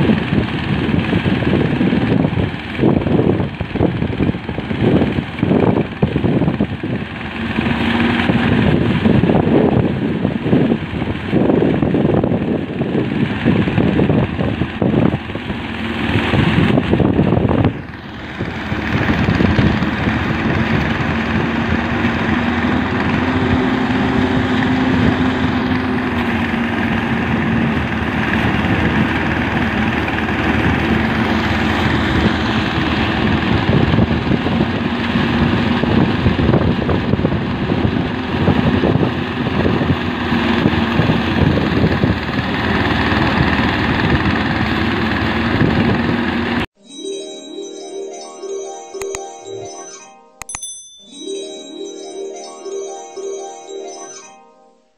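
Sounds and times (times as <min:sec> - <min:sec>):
thresher engine humming: 0:00.0 - 0:46.6.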